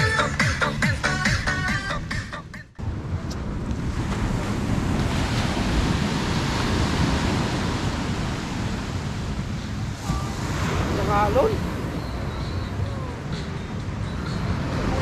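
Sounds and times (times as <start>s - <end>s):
wind rumbling on microphone: 2.8s - 15.0s
surf washing onto sandy beach: 3.0s - 15.0s.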